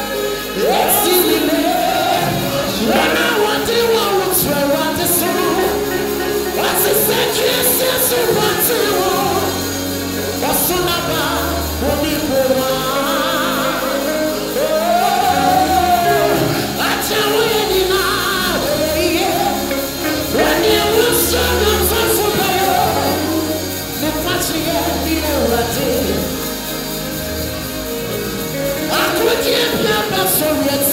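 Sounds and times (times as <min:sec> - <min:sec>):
man singing gospel song: 0:00.0 - 0:27.0, 0:28.6 - 0:30.9
bass: 0:00.0 - 0:30.9
keyboard: 0:00.0 - 0:30.9.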